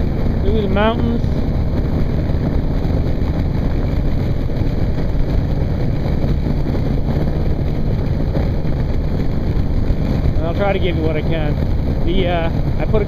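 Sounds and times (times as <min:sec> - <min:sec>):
motorcycle engine drone: 0:00.0 - 0:13.0
wind rush on microphone: 0:00.0 - 0:13.0.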